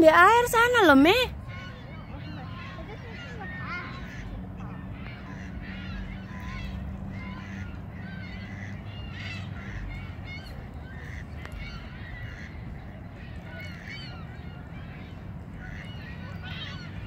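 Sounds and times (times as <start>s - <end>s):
low steady rumble: 0.0s - 17.0s
chorus of birds calling: 0.1s - 17.0s.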